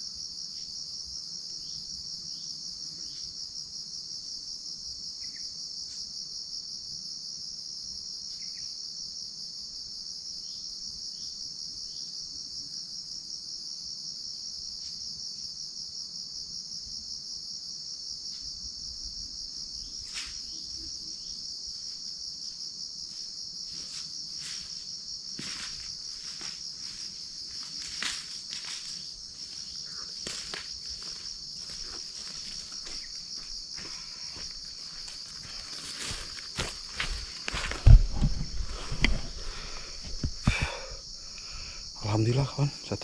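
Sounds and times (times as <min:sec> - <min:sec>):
high-pitched insect drone: 0:00.0 - 0:43.0.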